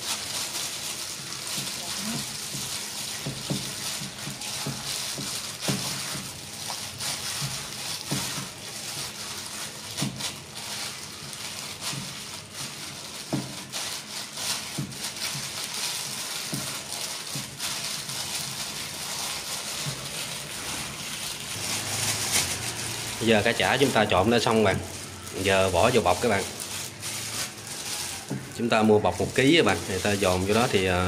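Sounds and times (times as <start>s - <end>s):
plastic crinkling: 0.0s - 31.0s
wet squishing of fish paste: 0.0s - 31.0s.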